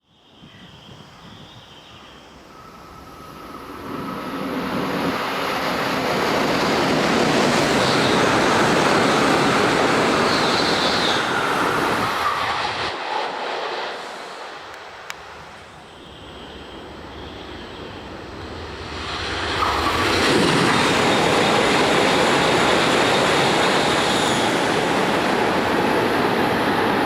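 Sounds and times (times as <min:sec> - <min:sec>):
train passing at speed: 0:00.1 - 0:27.0.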